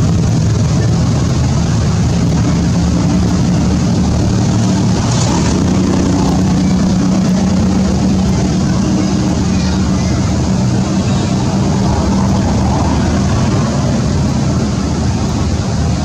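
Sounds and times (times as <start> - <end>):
motor droning: 0.0 - 16.0.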